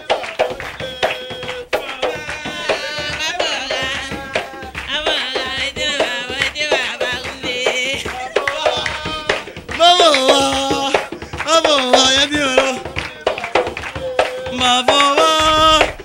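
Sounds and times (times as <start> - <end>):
hand drum beating: 0.0 - 16.0
person singing with vibrato: 0.0 - 16.0.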